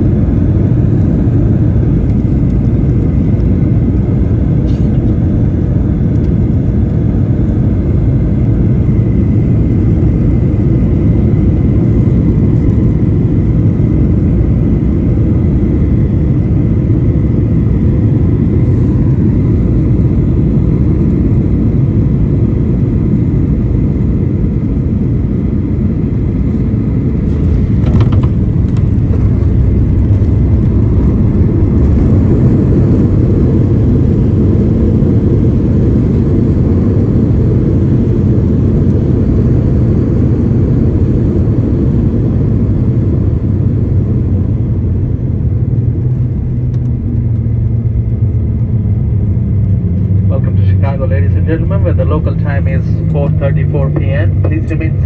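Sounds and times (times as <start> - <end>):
airplane cabin engine rumble: 0.0 - 55.0
faint steady whines: 0.0 - 55.0.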